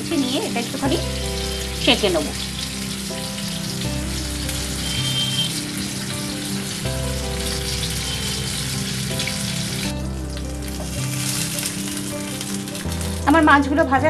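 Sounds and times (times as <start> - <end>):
fish sizzling in oil: 0.0 - 13.6.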